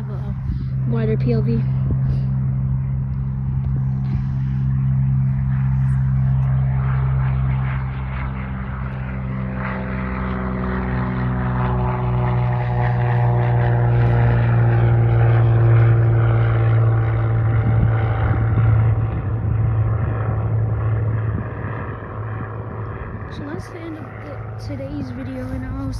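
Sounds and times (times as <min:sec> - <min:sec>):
propeller airplane engine drone: 0:00.0 - 0:25.9.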